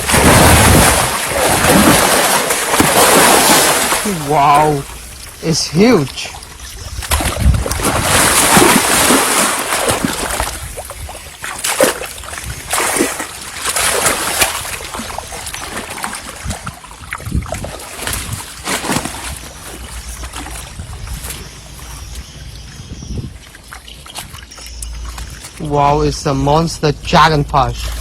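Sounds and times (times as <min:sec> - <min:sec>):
fish thrashing and splashing water: 0:00.0 - 0:26.2.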